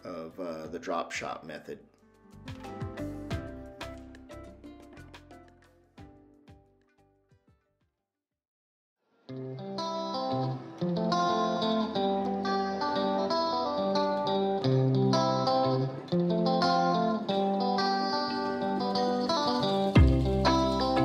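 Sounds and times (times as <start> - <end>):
plucked guitar music: 2.0 - 7.6, 9.3 - 21.0.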